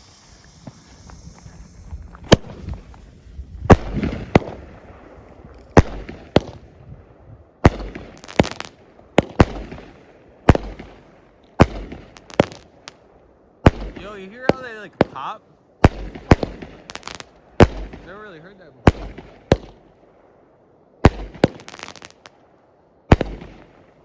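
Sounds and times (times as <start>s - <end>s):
fireworks popping: 0.0s - 6.8s, 7.6s - 13.0s, 13.6s - 19.9s, 21.0s - 22.4s, 23.1s - 23.8s.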